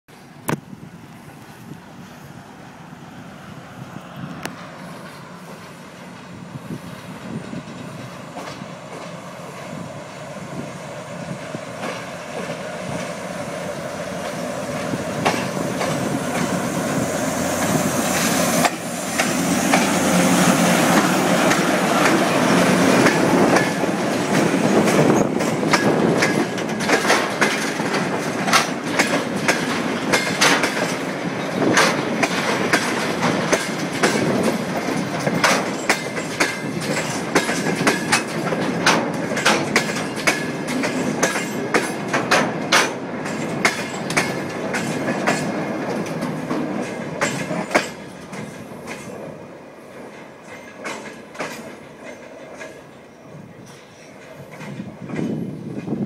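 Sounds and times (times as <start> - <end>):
diesel locomotive engine: 0.1 - 56.0
train wheels clicking over rail joints: 4.4 - 56.0.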